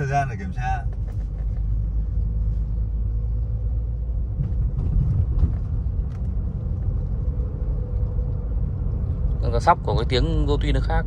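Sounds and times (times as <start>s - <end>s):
car rumbling on the move: 0.0s - 11.0s.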